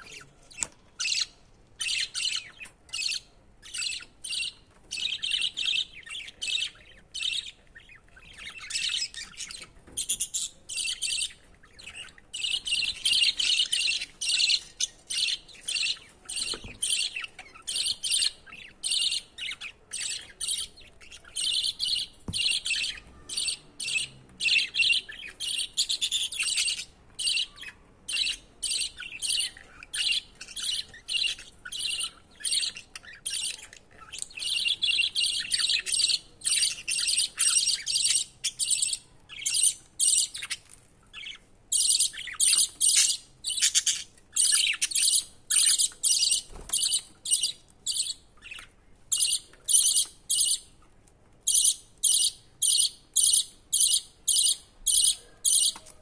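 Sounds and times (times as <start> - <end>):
budgerigars chirping: 0.0 - 50.8, 51.5 - 55.8.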